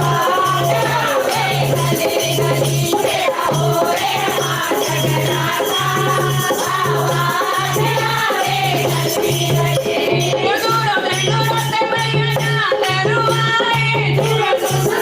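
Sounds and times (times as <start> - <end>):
devotional singing: 0.0 - 15.0
jingling hand percussion: 0.0 - 15.0.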